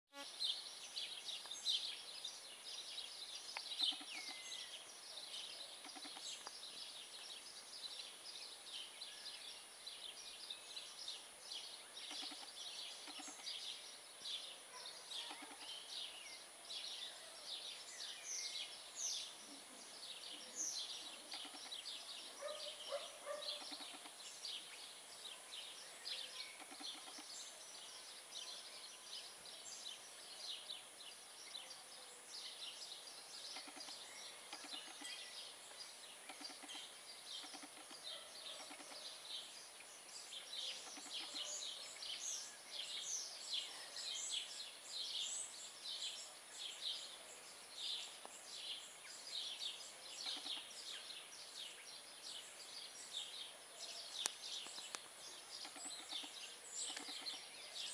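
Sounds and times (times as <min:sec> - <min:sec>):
small birds chirping: 0:00.1 - 0:57.9.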